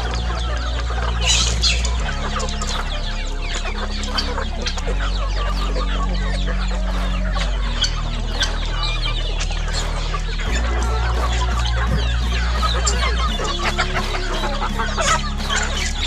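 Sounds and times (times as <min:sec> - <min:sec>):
chickens clucking: 0:00.0 - 0:16.0
chicks peeping: 0:00.0 - 0:16.0
low held music notes: 0:00.0 - 0:16.0.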